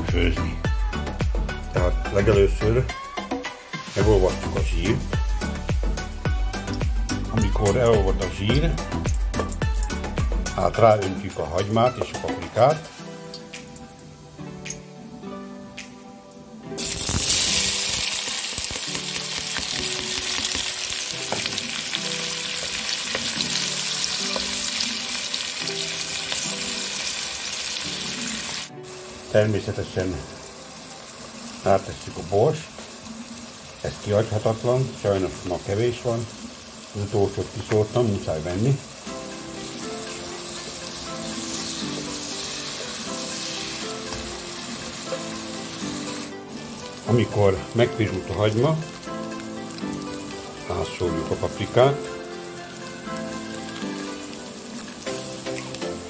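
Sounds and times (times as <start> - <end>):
background music: 0.0 - 56.0
vegetables sizzling in hot fat: 3.7 - 10.7, 16.8 - 56.0.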